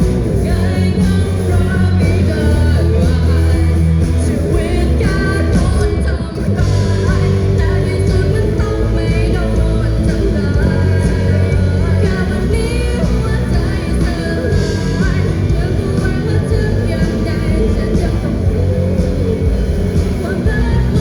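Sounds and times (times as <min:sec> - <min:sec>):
live rock band with singer: 0:00.0 - 0:21.0.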